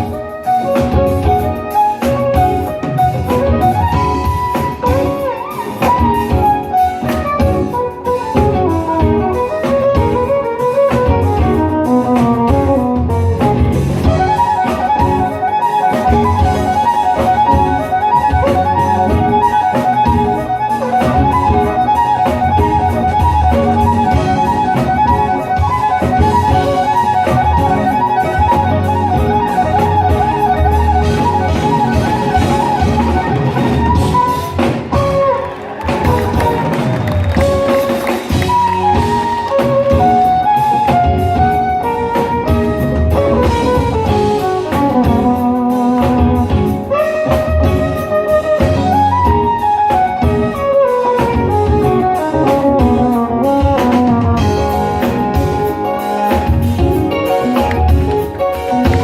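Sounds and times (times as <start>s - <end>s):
drum and bass groove: 0.0s - 59.0s
jazz fusion band playing: 0.0s - 59.0s
violin lead: 0.0s - 59.0s.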